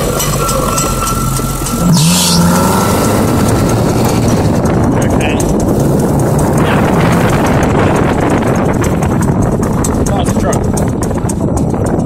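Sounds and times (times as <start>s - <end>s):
buggy engine accelerating: 0.0s - 12.0s.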